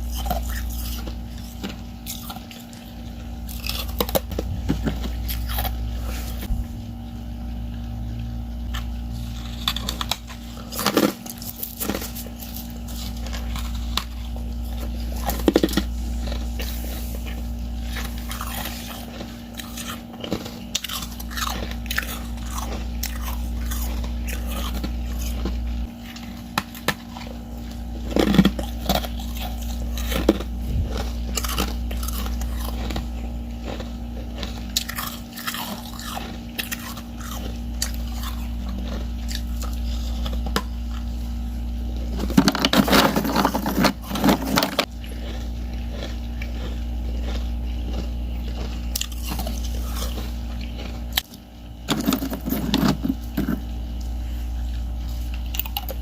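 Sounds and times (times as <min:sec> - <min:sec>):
ice chips crunching while chewed: 0:00.0 - 0:06.5, 0:07.7 - 0:56.0
steady low hum: 0:00.0 - 0:56.0.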